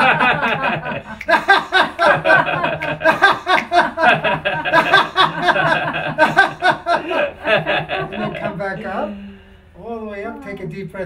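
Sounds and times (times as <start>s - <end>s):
people laughing: 0.0s - 9.1s.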